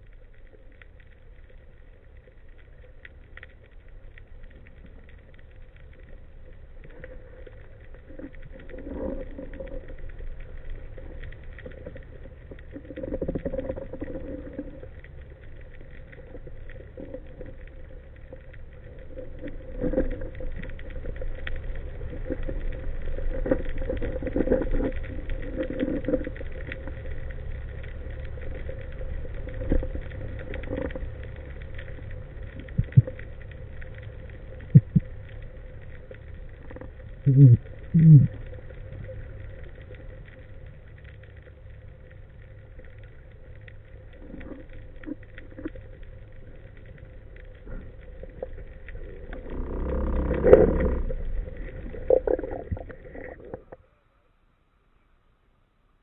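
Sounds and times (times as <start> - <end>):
water swishes: 0.0 - 54.2
faint crackling and ticking: 0.0 - 56.0
low rumble of moving water: 0.0 - 56.0.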